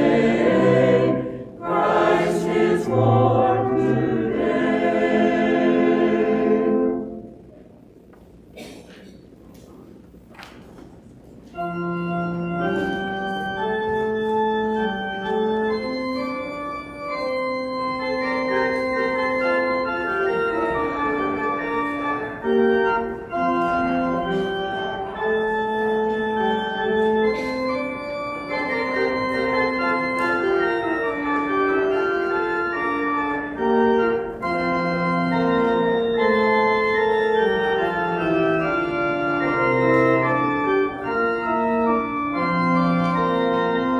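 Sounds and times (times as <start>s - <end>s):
church organ chords: 0.0s - 7.5s, 11.5s - 43.9s.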